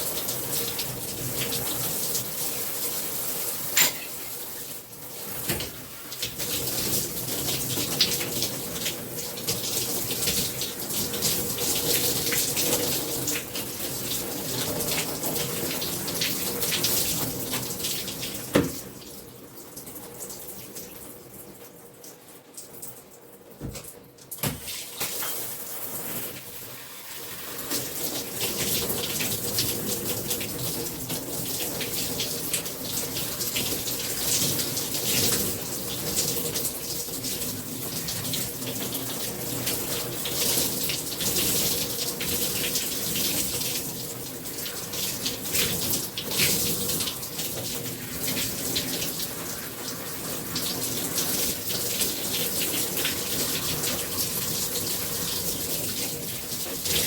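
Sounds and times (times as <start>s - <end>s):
water splashing while washing hair: 0.0s - 21.4s, 22.0s - 57.0s.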